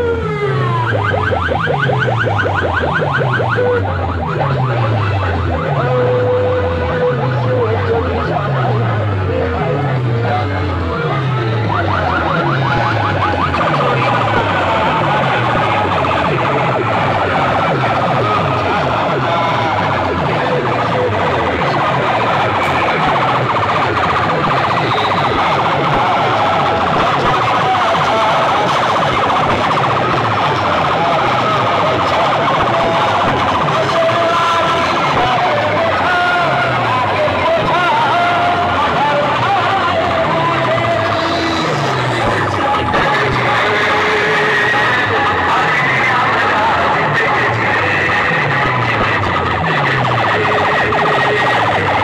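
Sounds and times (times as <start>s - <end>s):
siren-like electronic effect: 0.0s - 52.0s.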